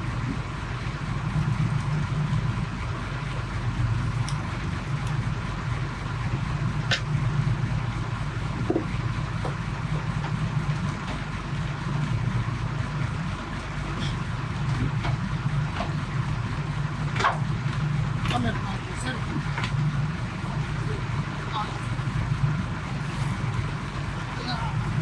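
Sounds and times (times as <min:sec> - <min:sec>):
boat engine running: 0:00.0 - 0:25.0
water noise: 0:00.0 - 0:25.0
wind: 0:00.0 - 0:25.0.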